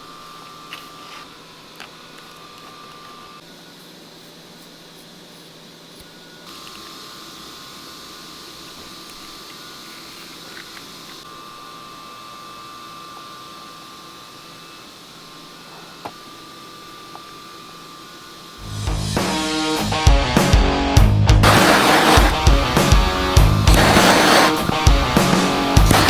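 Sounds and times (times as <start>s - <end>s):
ventilation fan humming: 0.0s - 18.8s, 21.4s - 26.0s.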